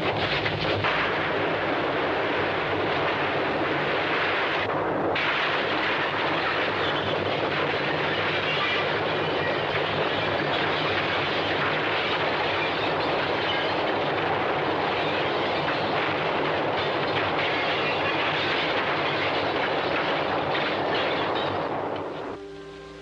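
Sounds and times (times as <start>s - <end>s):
train wheels clattering on rails: 0.0s - 22.4s.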